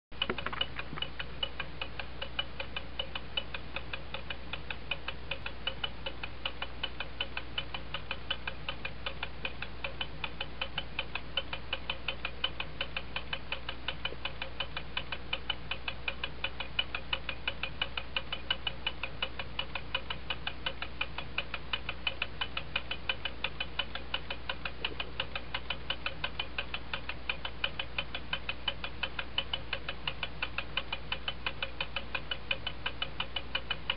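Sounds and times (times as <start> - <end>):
wall clock ticking fast: 0.1 - 33.9.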